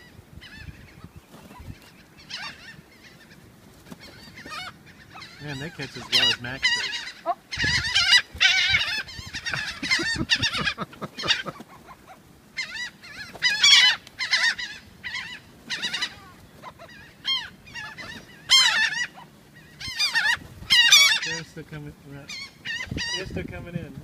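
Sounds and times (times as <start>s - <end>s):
flock of birds calling: 0.0s - 24.0s.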